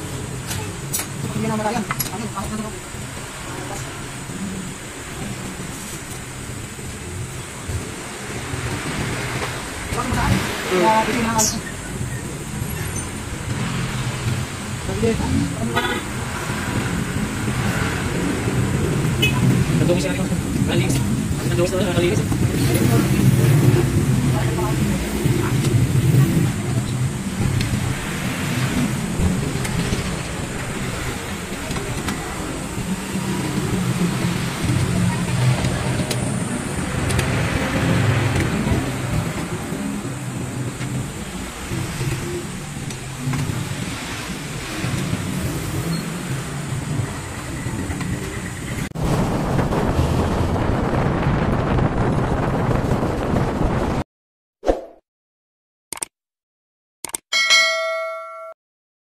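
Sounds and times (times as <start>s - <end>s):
vehicle engine: 0.0s - 53.4s
road traffic: 0.0s - 54.0s
wind buffeting microphone: 0.0s - 54.0s.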